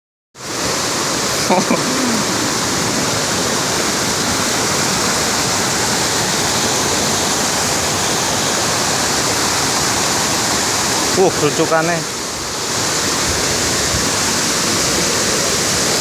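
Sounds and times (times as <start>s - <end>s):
waterfall roaring: 0.4s - 16.0s.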